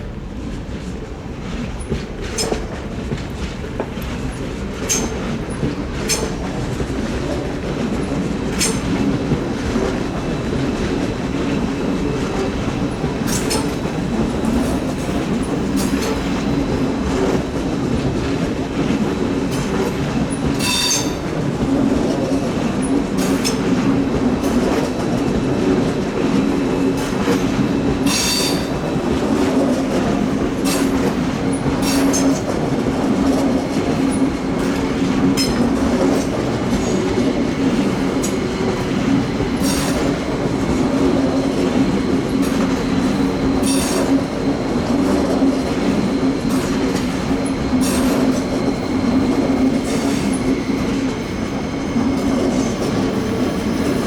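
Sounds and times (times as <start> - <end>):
train rail rumble and wheel clatter: 0.0 - 54.0.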